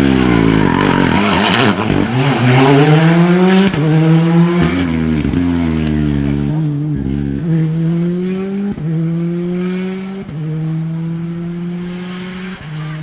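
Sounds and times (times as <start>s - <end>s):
rally car accelerating: 0.0s - 13.0s.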